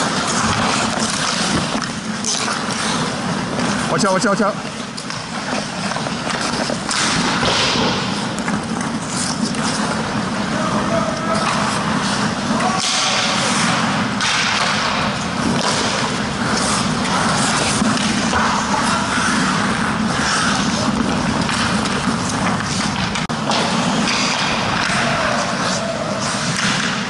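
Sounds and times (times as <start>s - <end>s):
rink background noise: 0.0s - 27.0s
skate blades scraping on ice: 0.0s - 27.0s.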